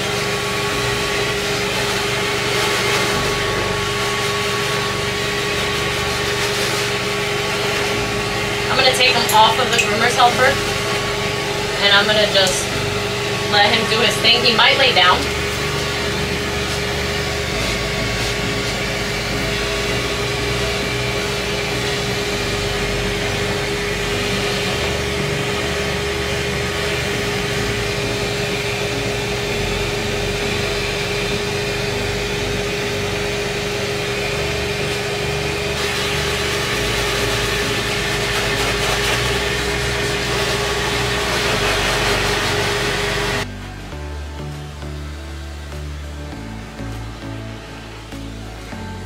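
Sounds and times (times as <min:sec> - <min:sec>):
pet dryer blowing air: 0:00.0 - 0:49.0.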